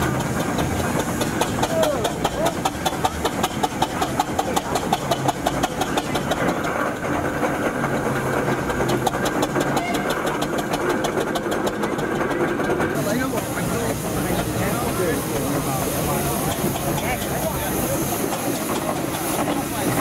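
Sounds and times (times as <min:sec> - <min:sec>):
engine running with knocking beat: 0:00.0 - 0:20.0.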